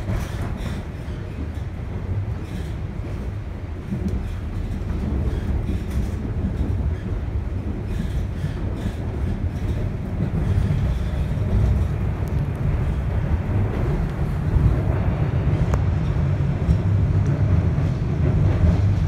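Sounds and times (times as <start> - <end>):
subway train wheels rumbling: 0.0 - 19.0.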